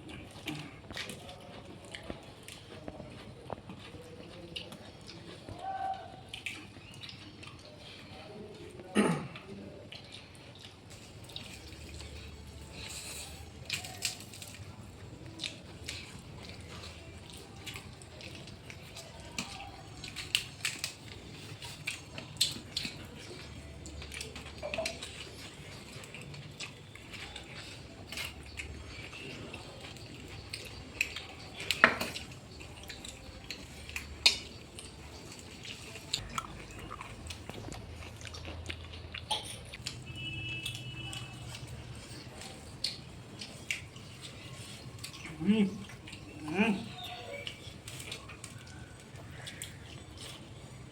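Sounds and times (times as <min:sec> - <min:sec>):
chewing: 0:00.0 - 0:50.9.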